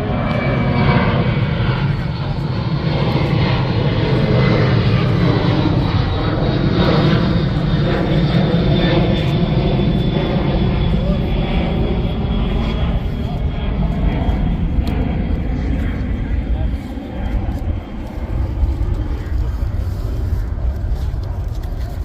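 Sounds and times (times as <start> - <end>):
airplane engine rumble: 0.0 - 22.0.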